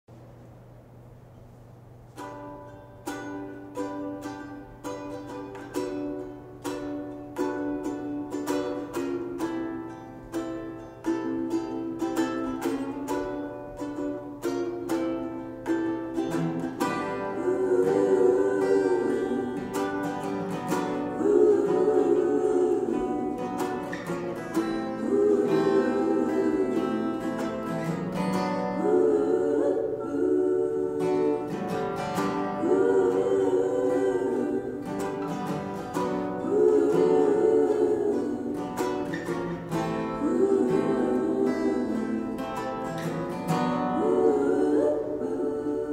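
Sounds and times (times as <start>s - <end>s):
acoustic guitar and ukulele picking: 1.4s - 45.9s.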